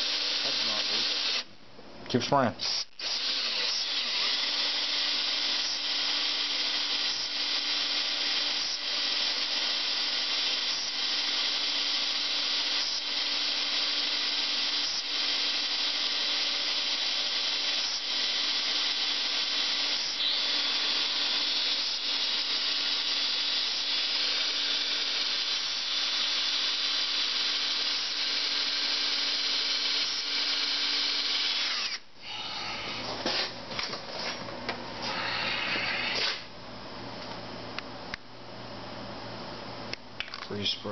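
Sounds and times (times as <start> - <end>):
electric drill running: 0.0 - 1.5, 2.6 - 33.3, 35.0 - 36.5.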